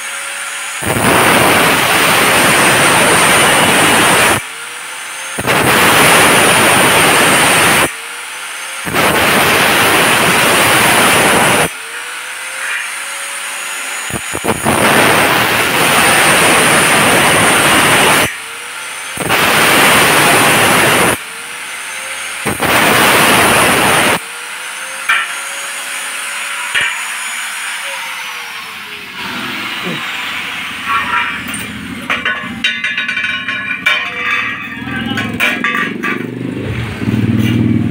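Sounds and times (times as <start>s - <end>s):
angle grinder whining unloaded: 0.0s - 37.7s
angle grinder cutting metal tube: 0.0s - 37.9s.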